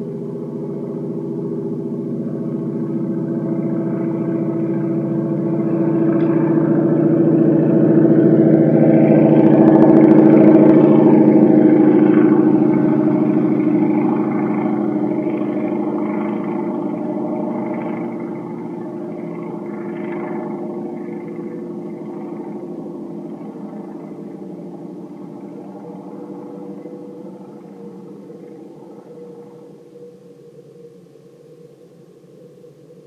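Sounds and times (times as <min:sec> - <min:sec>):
electric ducted fan whirring: 0:00.0 - 0:33.0.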